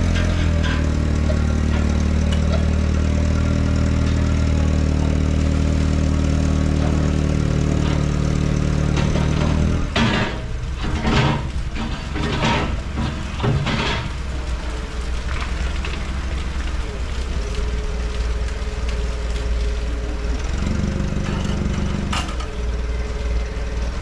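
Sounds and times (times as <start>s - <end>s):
locomotive machinery droning: 0.0s - 24.0s.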